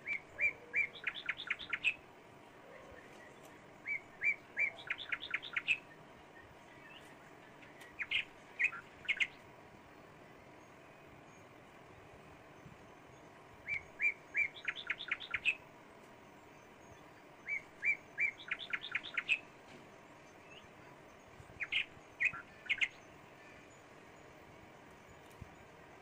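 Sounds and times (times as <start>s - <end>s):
bird singing: 0.0s - 26.0s.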